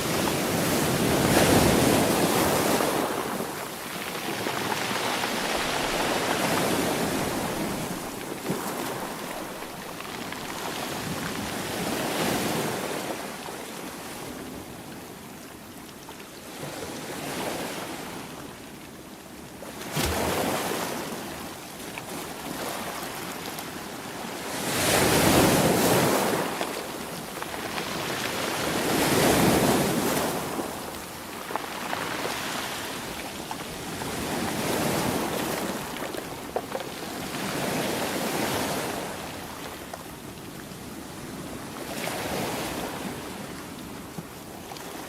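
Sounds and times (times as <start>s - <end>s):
sea waves breaking on shore: 0.0s - 14.7s, 19.7s - 45.0s.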